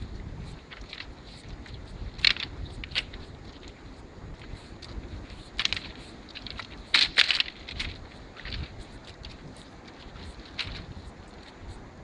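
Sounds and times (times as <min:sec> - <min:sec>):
footsteps crunching on stones: 0:00.0 - 0:11.7
low steady rumble: 0:00.0 - 0:12.0.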